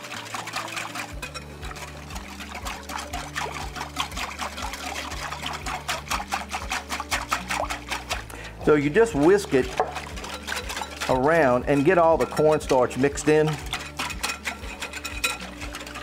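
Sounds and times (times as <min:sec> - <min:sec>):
wire whisk beating in glass bowl: 0:00.0 - 0:16.0.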